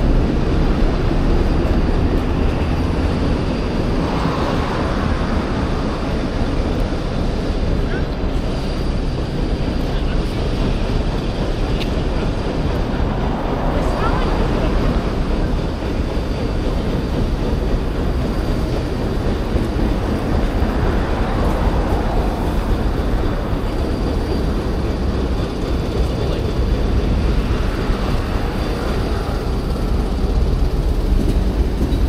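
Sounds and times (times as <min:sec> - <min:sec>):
low rumble of passing vehicles: 0:00.0 - 0:32.0.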